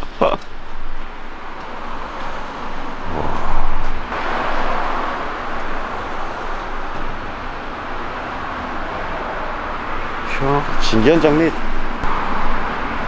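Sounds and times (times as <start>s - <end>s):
road traffic: 0.0s - 13.0s
vehicle passing: 0.6s - 13.0s.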